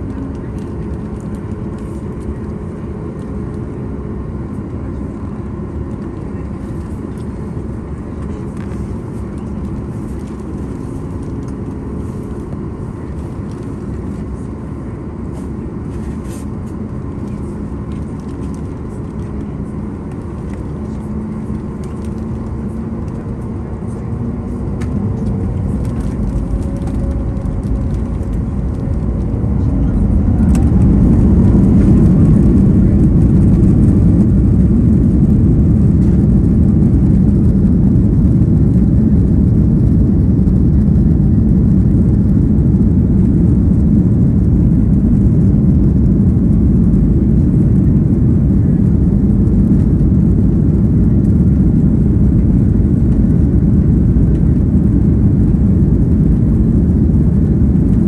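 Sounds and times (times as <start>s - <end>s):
airplane cabin hum: 0.0s - 58.0s
low rumble of wheels: 0.0s - 58.0s.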